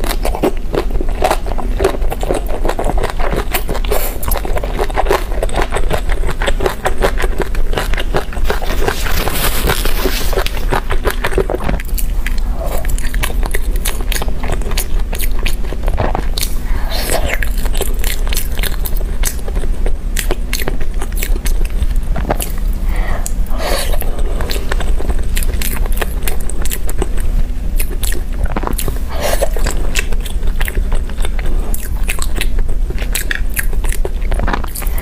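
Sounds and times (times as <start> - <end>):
biting and chewing food: 0.0 - 35.0
steady low hum: 0.0 - 35.0.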